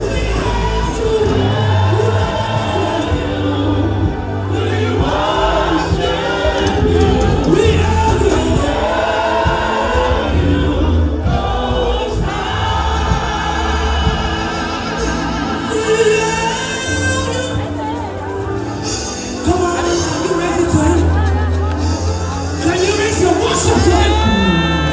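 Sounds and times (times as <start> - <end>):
choir singing: 0.0 - 24.9
steady bass line: 0.0 - 24.9.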